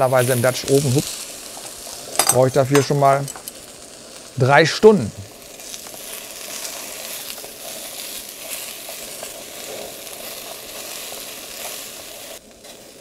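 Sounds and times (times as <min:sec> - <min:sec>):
faint crackles: 0:00.0 - 0:13.0
potatoes sizzling in oil: 0:00.0 - 0:13.0.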